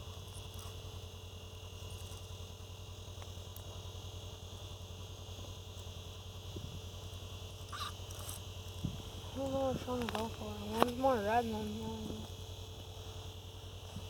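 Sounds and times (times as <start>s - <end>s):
high-pitched whine: 0.0s - 14.0s
low pulsing mechanical drone: 0.0s - 14.0s.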